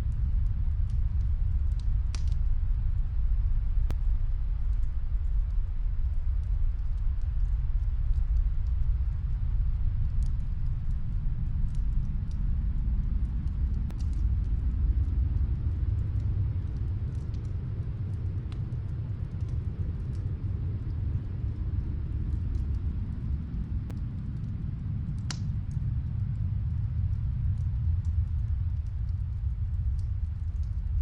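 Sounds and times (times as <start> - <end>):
snowstorm wind rumble: 0.0 - 31.0
wood fire crackling: 0.0 - 31.0.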